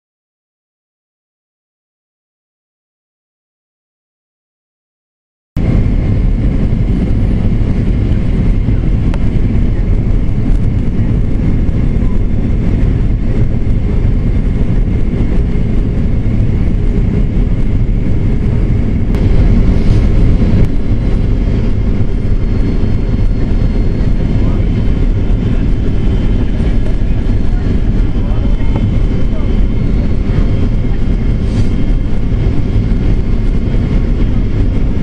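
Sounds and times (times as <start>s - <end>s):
airliner engines and rushing air: 5.6s - 35.0s.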